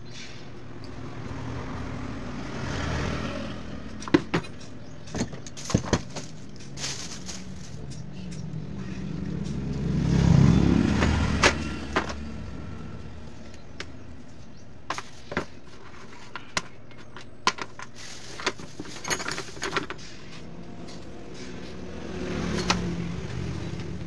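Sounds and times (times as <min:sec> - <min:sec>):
vehicle engine hum: 0:00.5 - 0:24.0.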